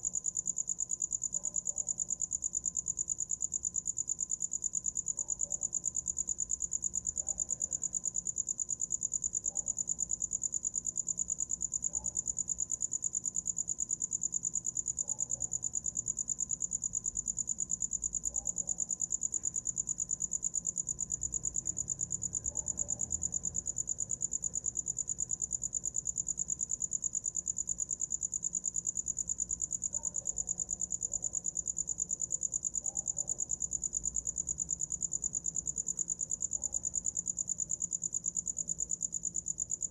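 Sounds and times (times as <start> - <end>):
cricket trilling: 0.0 - 39.9.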